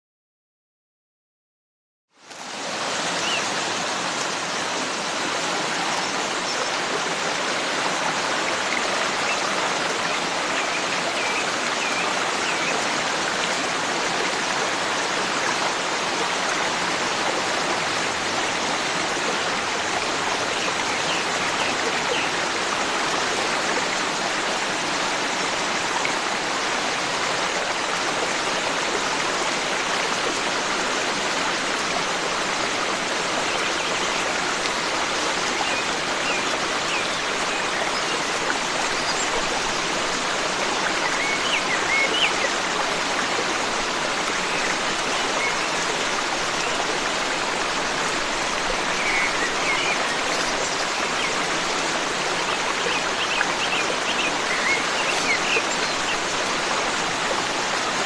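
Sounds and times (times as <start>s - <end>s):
stream flowing: 2.1s - 58.0s.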